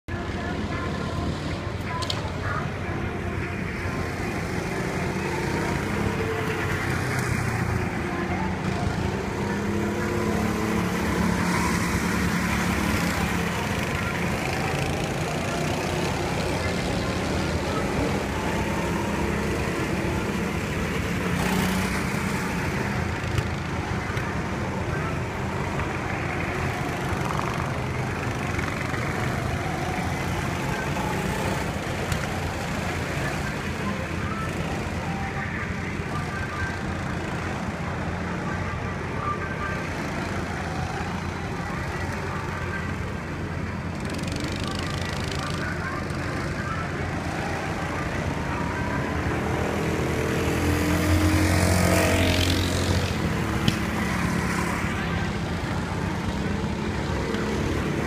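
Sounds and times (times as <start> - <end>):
go-kart engines: 0.0 - 58.0.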